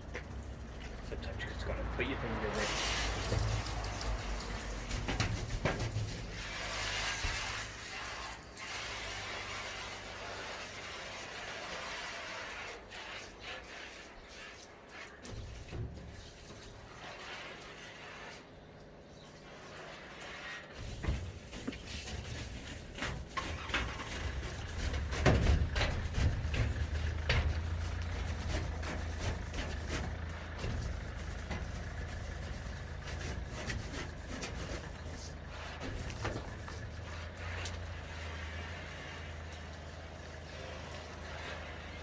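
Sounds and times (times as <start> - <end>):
engine starting and droning: 0.0 - 12.9, 15.2 - 42.0.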